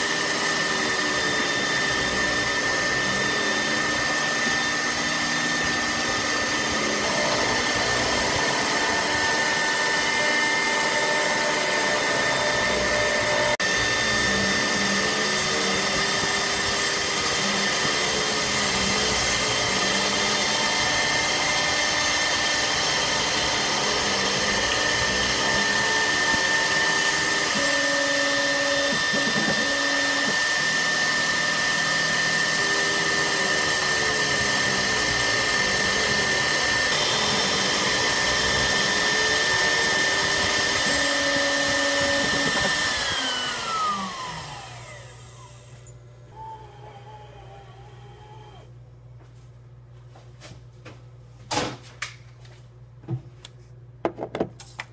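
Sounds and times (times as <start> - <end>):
metal cutting noise: 0.0 - 48.6
high spindle whine: 0.0 - 48.7.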